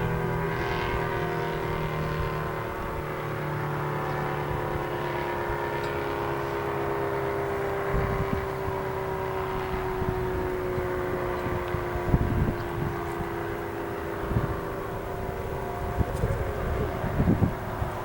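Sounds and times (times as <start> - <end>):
tornado siren steady tone: 0.0 - 18.0
wind buffeting microphone: 0.0 - 18.0.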